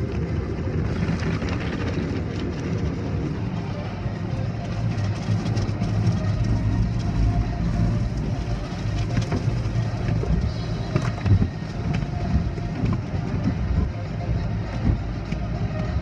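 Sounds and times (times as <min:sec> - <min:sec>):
car wash machinery rumble: 0:00.0 - 0:16.0
water spraying on windshield: 0:00.9 - 0:16.0.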